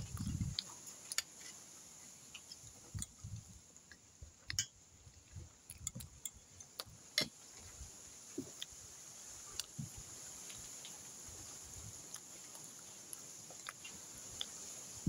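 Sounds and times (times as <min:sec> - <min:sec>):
soft chewing: 0:00.0 - 0:14.8.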